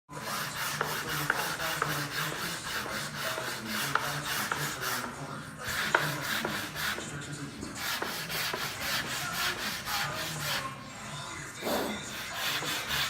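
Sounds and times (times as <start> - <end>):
sandpaper rubbing on wood: 0.2 - 10.7, 11.6 - 13.0.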